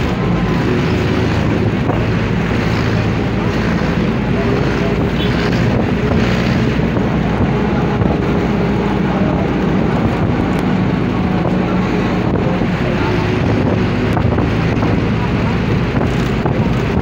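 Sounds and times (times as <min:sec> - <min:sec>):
vehicle engine and road noise: 0:00.0 - 0:17.0
wind buffeting microphone: 0:00.0 - 0:17.0.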